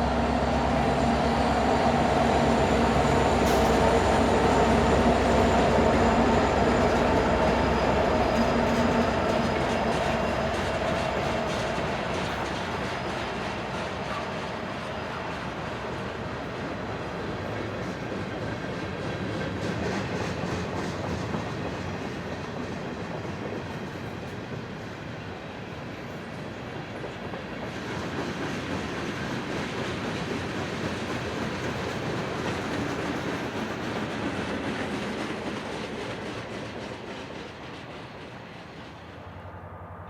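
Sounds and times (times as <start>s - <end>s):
freight train wheels clattering: 0.4s - 39.4s.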